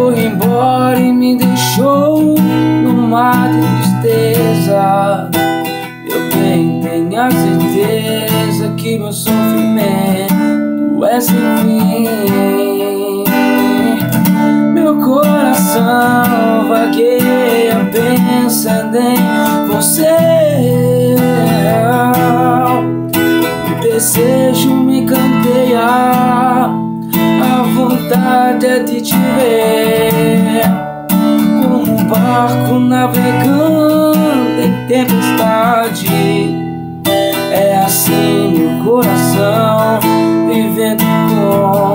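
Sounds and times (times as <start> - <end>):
acoustic guitar strumming: 0.0 - 41.9
man singing: 0.0 - 41.9.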